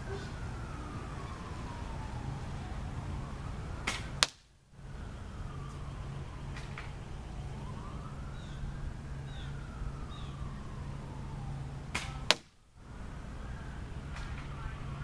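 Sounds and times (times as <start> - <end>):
distant siren wailing: 0.0 - 15.0
steady low hum: 0.0 - 15.0.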